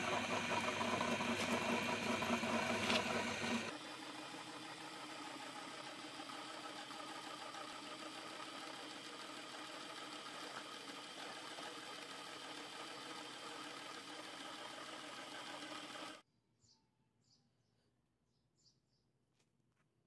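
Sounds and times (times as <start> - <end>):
meat grinder motor humming: 0.0 - 16.2.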